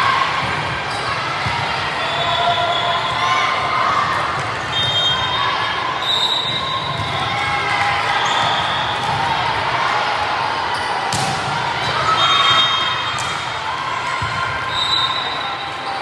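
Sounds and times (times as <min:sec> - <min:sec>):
crowd and players' voices: 0:00.0 - 0:16.0.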